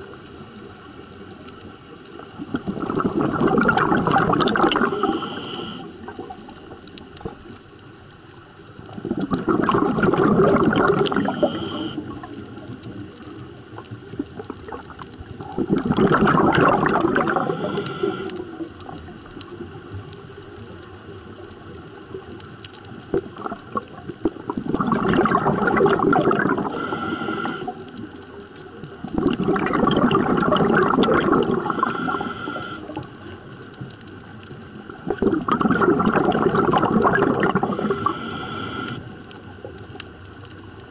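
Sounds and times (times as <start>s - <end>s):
muffled underwater hiss: 0.0s - 40.9s
rushing bubbling water surges: 0.0s - 40.9s.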